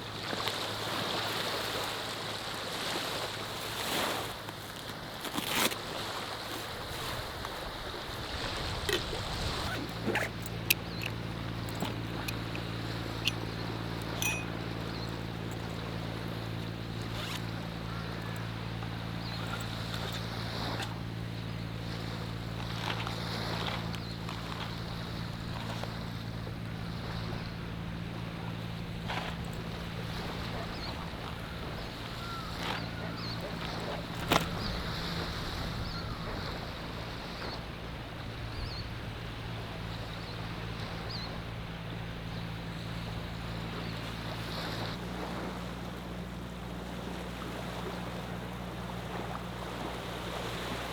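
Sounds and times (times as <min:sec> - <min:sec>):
sea waves washing on shore: 0:00.0 - 0:50.9
low motor hum: 0:07.2 - 0:50.9.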